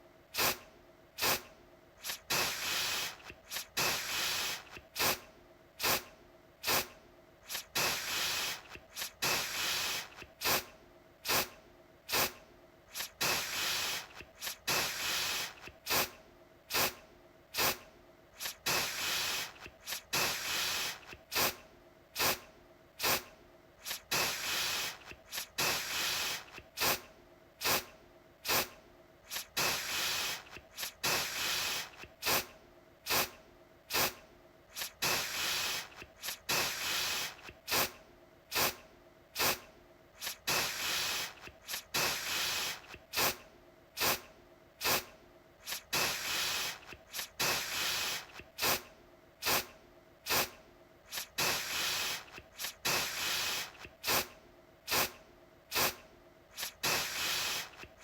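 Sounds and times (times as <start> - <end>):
aerosol can spraying: 0.4 - 0.6, 1.2 - 5.2, 5.8 - 17.0, 17.6 - 17.8, 18.4 - 21.6, 22.2 - 22.4, 23.0 - 32.5, 33.1 - 38.8, 39.4 - 39.6, 40.2 - 43.4, 44.0 - 44.2, 44.8 - 49.7, 50.3 - 54.3, 54.9 - 58.0.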